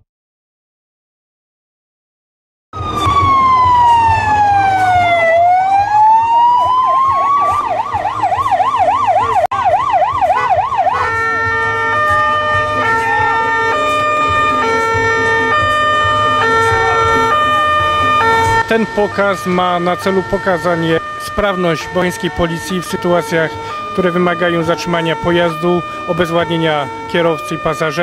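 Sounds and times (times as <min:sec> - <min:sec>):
police siren: 0:02.8 - 0:28.0.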